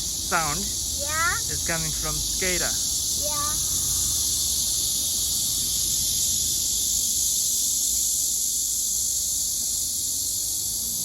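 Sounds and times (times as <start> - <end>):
cicadas buzzing in chorus: 0.0 - 11.0.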